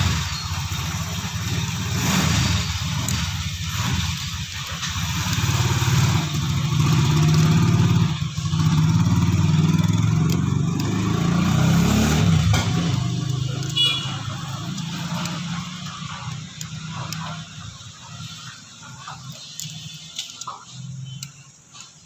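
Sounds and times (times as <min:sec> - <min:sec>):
engine running: 0:00.0 - 0:21.3.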